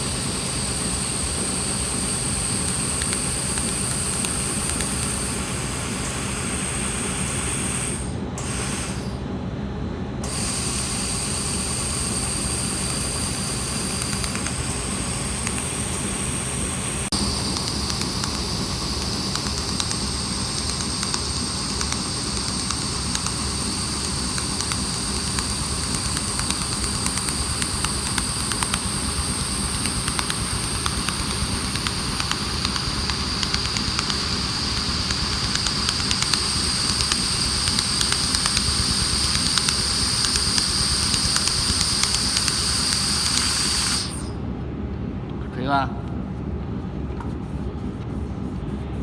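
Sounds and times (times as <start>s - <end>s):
laser welder hissing: 0.0s - 9.3s, 10.2s - 44.4s
high steady whines: 0.0s - 49.0s.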